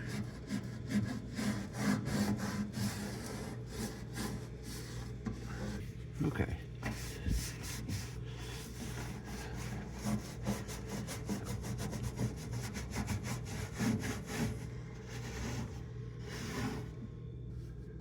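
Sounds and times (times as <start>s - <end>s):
scrubbing inside a microwave: 0.0s - 18.0s.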